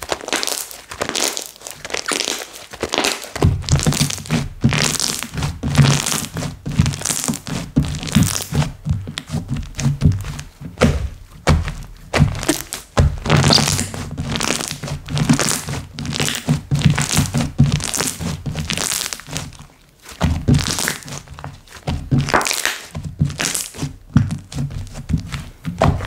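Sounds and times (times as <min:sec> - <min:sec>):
slime squishing and popping: 0:00.0 - 0:26.0.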